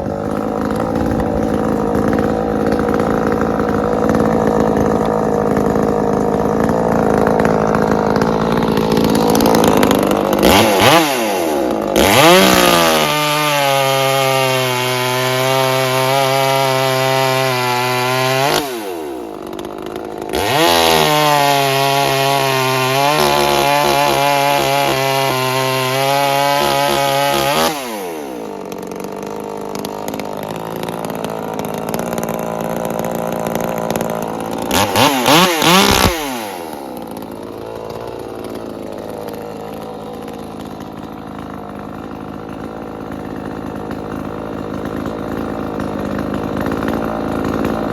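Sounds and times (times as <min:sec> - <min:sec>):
chainsaw revving: 0:00.0 - 0:47.9.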